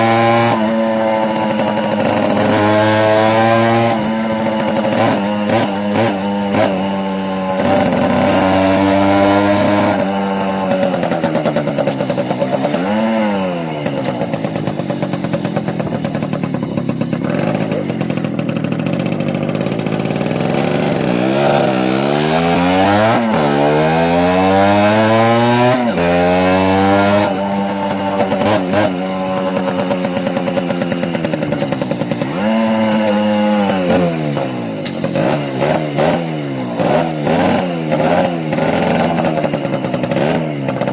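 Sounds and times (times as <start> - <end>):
small motorbike engine revving: 0.0 - 40.9.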